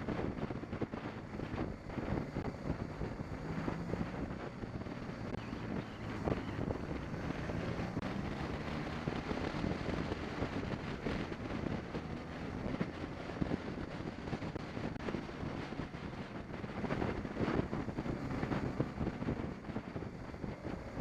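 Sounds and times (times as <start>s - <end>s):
motorcycle engine running: 0.0s - 21.0s
wind rushing over microphone: 0.0s - 21.0s.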